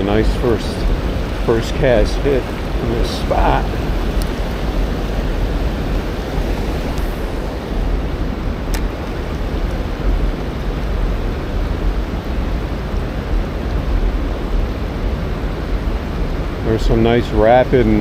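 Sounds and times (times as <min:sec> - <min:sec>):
low rumble: 0:00.0 - 0:16.8
river rapids rushing: 0:00.0 - 0:18.0.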